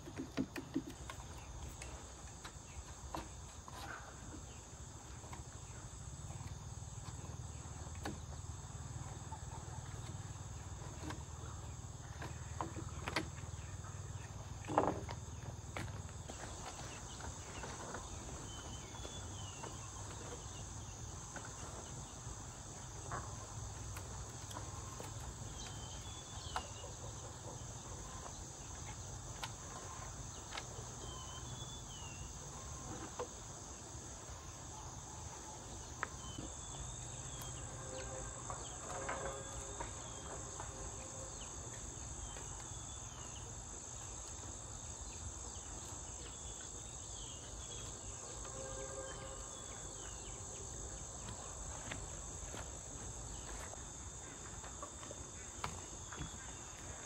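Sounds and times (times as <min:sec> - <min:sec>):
insects chorus: 0:00.0 - 0:57.0.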